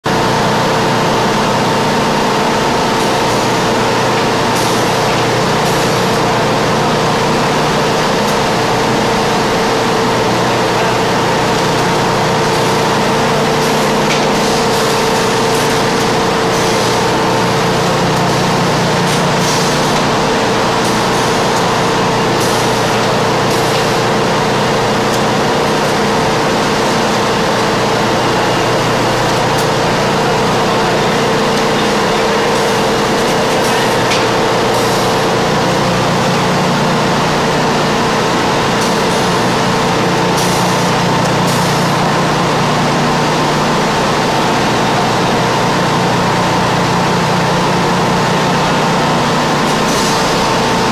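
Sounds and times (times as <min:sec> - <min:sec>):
factory machinery running: 0:00.0 - 0:50.9.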